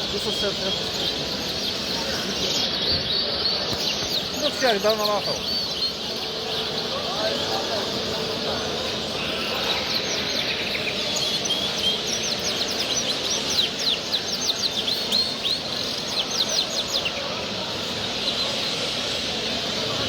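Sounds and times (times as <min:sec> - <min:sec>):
cage birds singing and chirping: 0:00.0 - 0:20.0.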